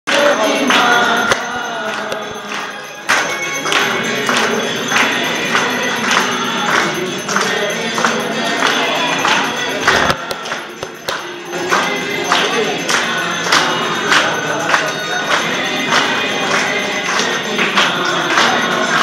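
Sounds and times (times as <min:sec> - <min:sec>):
group singing devotional song: 0:00.1 - 0:19.0
hand clapping: 0:00.1 - 0:19.0.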